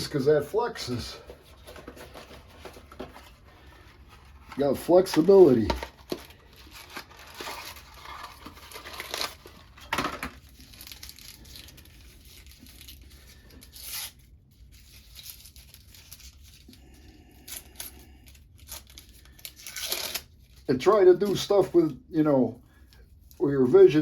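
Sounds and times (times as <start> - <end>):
wrapping crinkling and rustling: 0.0 - 24.0
bandage wrapping tearing: 1.4 - 21.4.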